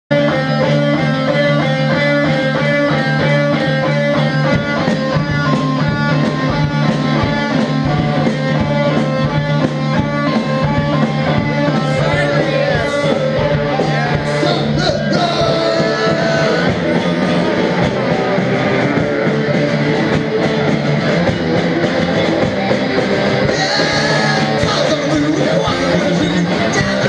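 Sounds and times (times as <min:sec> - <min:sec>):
drums: 0:00.1 - 0:27.0
electric guitars strumming chords: 0:00.1 - 0:27.0.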